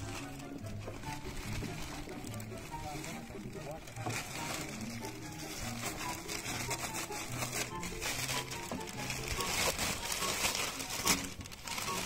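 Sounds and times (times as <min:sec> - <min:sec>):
background music: 0:00.0 - 0:12.0
plastic bag crinkling: 0:00.0 - 0:12.0.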